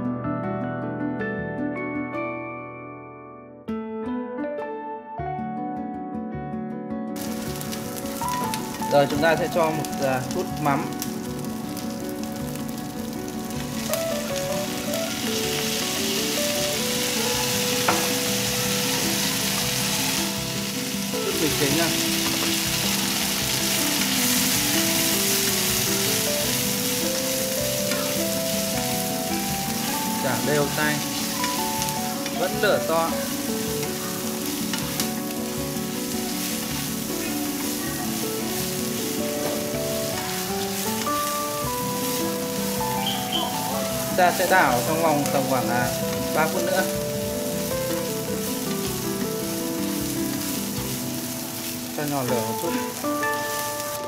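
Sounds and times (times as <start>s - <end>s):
chopsticks tossing food in pan: 7.2s - 54.0s
loud sizzle in hot oil: 7.2s - 54.0s.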